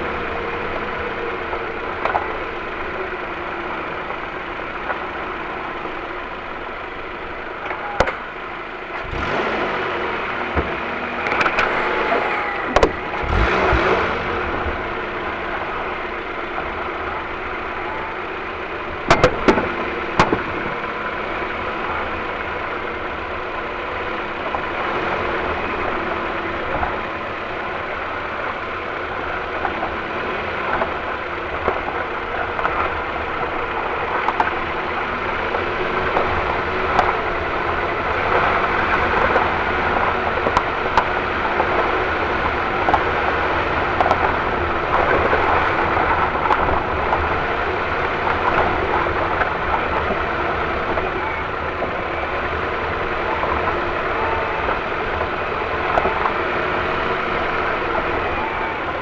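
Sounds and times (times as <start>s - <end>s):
car running: 0.0s - 59.0s
suspension knocks: 10.4s - 59.0s.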